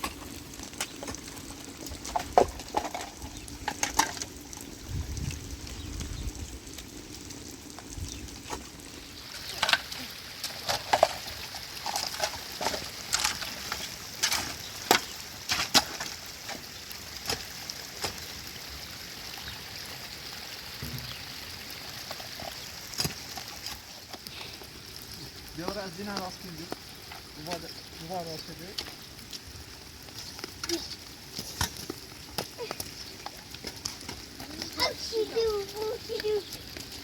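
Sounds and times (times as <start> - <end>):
running water hissing: 0.0 - 37.0.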